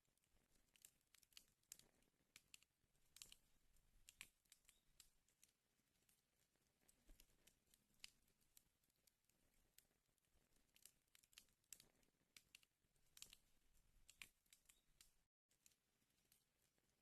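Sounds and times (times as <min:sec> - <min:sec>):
wood fire crackling faintly: 0:00.0 - 0:17.0.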